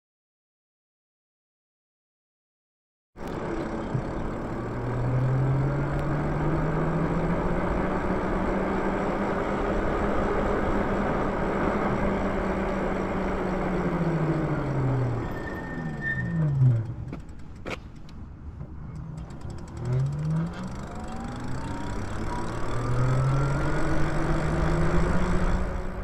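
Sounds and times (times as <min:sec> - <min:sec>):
wind and tyre noise: 0:03.2 - 0:26.0.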